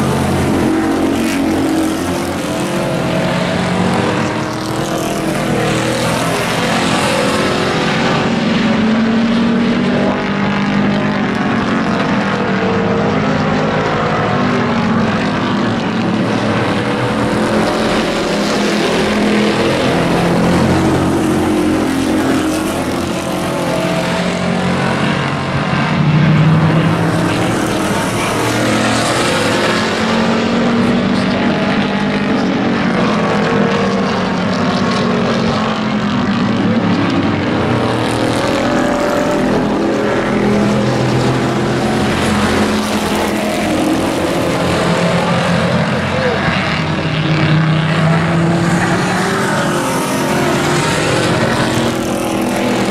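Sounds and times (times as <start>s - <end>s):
race truck engines revving: 0.0s - 52.9s.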